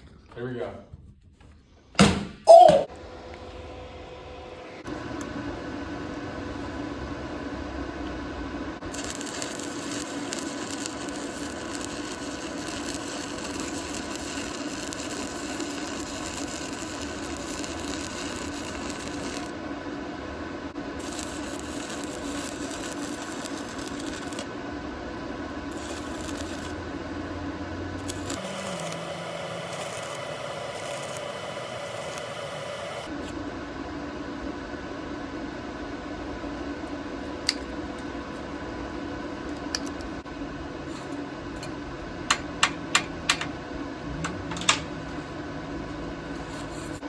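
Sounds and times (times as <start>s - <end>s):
steady electrical hum: 2.8s - 47.0s
arc welding crackling: 4.8s - 33.3s, 36.4s - 47.0s.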